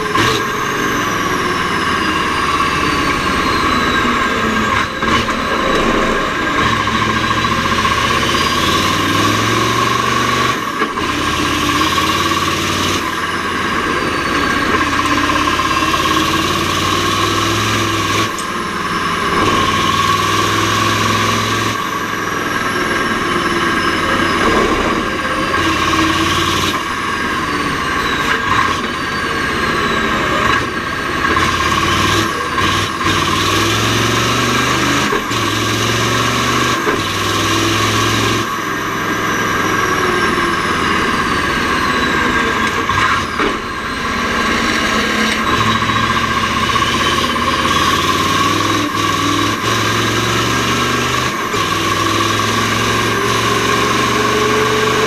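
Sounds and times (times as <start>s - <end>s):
diesel truck engine running hard: 0.0s - 55.0s.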